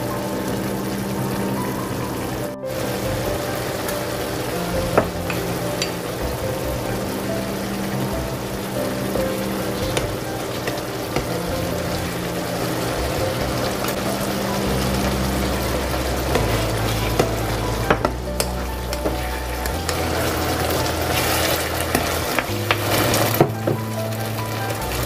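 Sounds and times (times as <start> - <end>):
sauce sizzling and bubbling in pan: 0.0 - 25.0.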